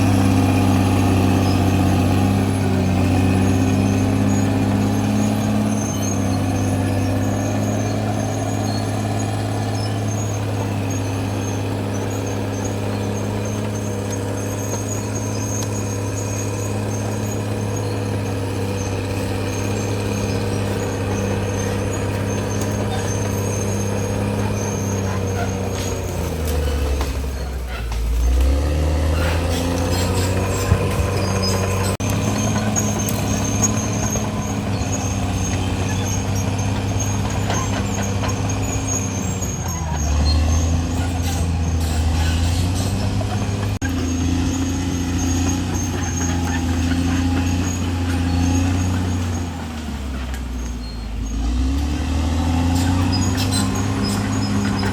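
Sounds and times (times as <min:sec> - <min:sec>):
bulldozer diesel engine under load: 0:00.0 - 0:54.9.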